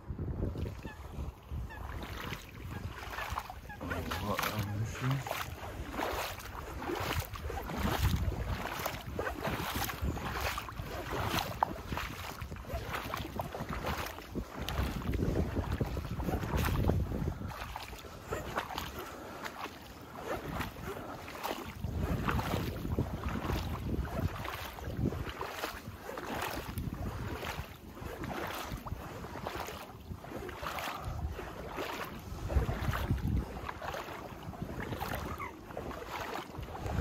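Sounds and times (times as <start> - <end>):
wind buffeting microphone: 0.0 - 19.4, 20.2 - 37.0.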